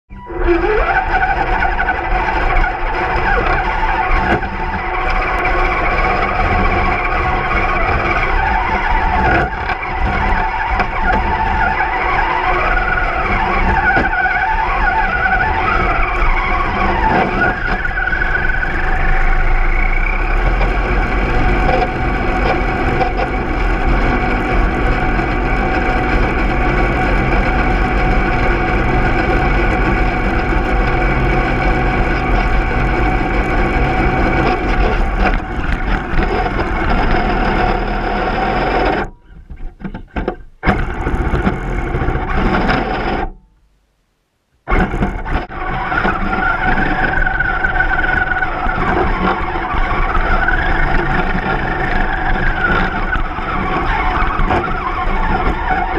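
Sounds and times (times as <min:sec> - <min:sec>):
electric motor and gears whining: 0:00.1 - 0:43.4, 0:44.7 - 0:55.9
tyres churning snow: 0:00.5 - 0:39.1, 0:44.7 - 0:55.9.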